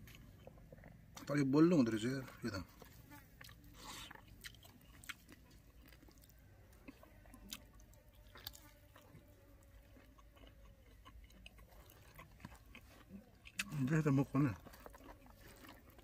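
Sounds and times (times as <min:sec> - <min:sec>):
person chewing: 0:00.0 - 0:01.3, 0:02.3 - 0:16.0.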